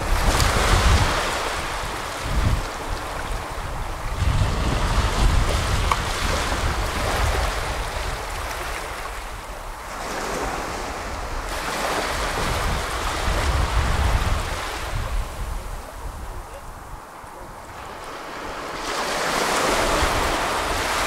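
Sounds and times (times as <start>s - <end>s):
small waves breaking on shore: 0.0s - 21.0s
wind rumble on microphone: 0.0s - 21.0s.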